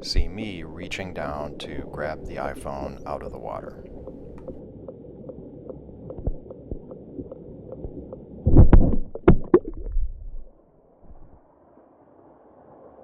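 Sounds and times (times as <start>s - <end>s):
muffled underwater waterfall rumble: 0.0s - 11.4s.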